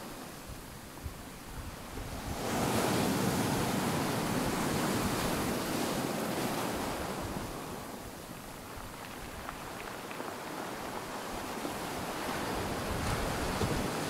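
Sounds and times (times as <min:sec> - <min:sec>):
ocean waves: 0:00.0 - 0:14.0.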